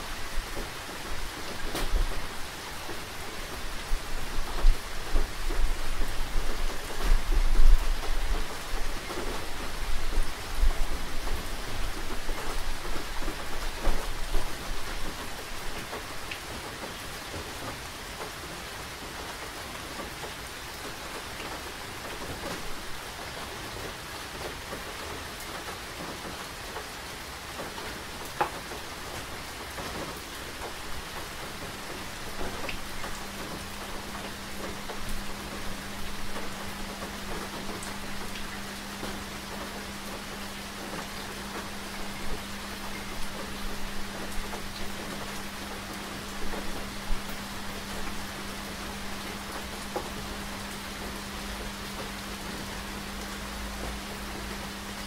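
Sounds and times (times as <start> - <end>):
rain falling on surfaces: 0.0 - 55.0.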